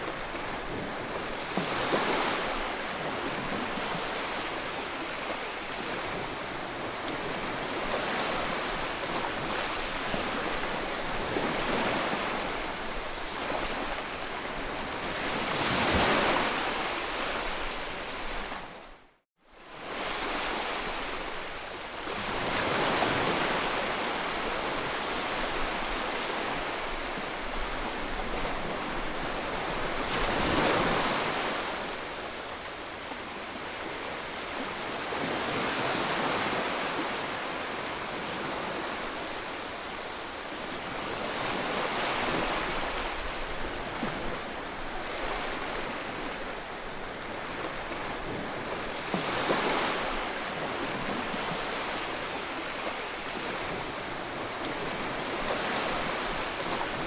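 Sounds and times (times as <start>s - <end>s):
sea waves breaking on shore: 0.0s - 19.0s, 19.6s - 57.0s.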